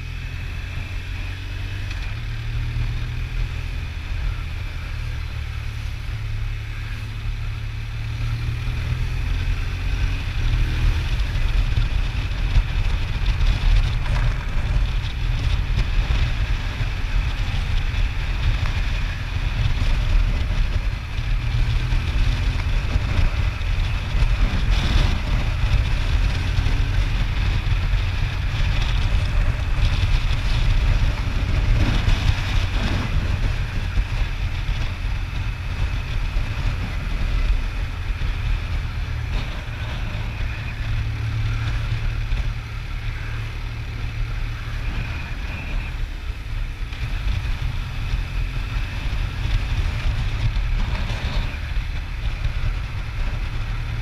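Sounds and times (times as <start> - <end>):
motorcycle engine and road noise: 0.0 - 54.0
wind buffeting microphone: 7.5 - 54.0.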